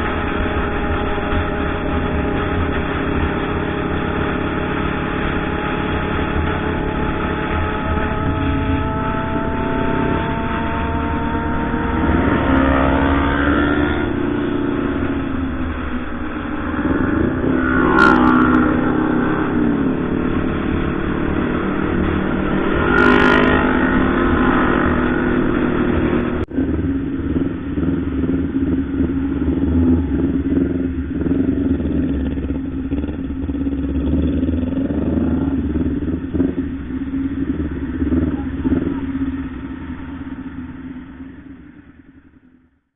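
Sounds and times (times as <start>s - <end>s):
motorcycle engine revving: 0.0s - 42.7s.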